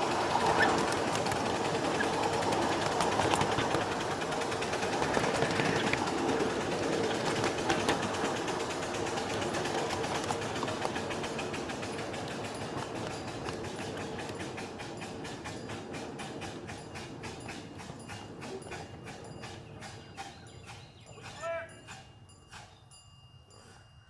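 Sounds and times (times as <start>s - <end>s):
small rapid clicks: 0.0s - 22.0s
train wheels rumbling on rail: 0.0s - 22.9s.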